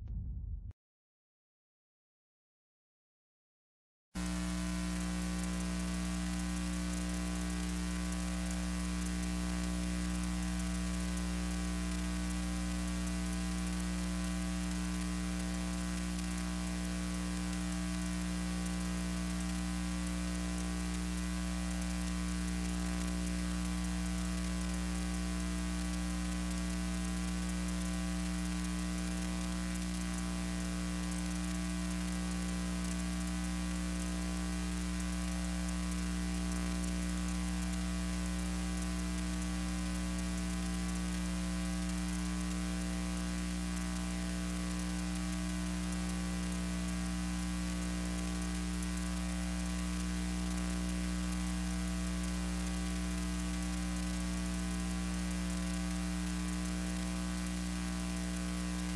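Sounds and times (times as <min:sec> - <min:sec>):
constant hiss: 0:04.2 - 0:58.9
electrical mains hum: 0:04.2 - 0:58.9.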